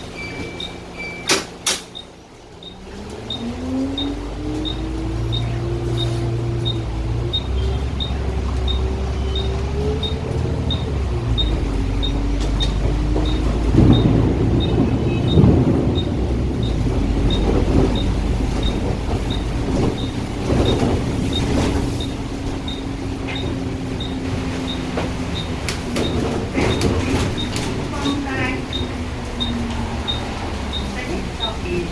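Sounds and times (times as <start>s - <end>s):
bus engine running: 0.0s - 31.9s
small ticking: 2.0s - 31.9s
heavy rain: 2.2s - 31.9s
low rumble: 4.2s - 31.9s.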